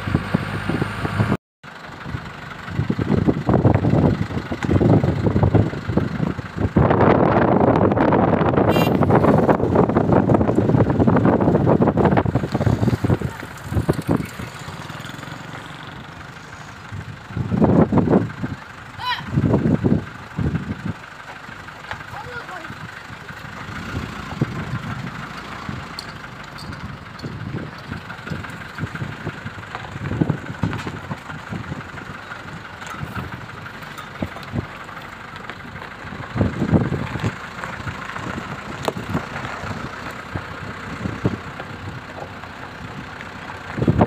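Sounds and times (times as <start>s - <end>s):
vehicle engine running: 0.0s - 44.0s
low rumbles and thumps: 2.1s - 44.0s.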